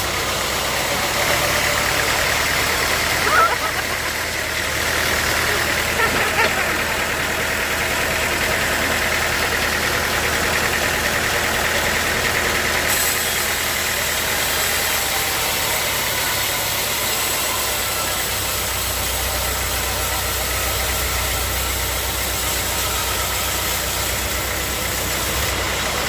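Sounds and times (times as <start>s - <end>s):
sawmill machinery running: 0.0s - 26.0s.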